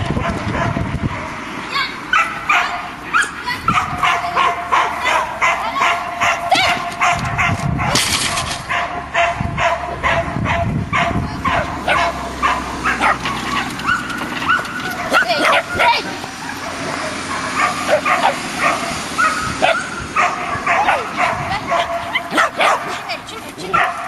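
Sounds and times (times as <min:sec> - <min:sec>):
dog barking: 0:02.1 - 0:08.0, 0:08.7 - 0:24.0.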